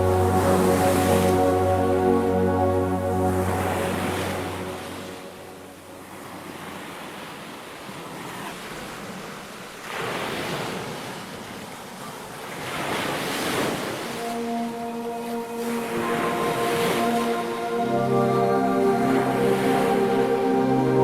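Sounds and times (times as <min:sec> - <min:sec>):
ocean waves washing onto shore: 0:00.0 - 0:21.0.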